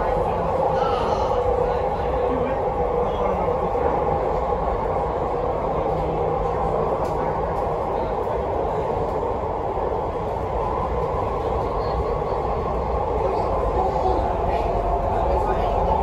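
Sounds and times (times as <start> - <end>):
train rumble and rail noise: 0.0 - 16.0.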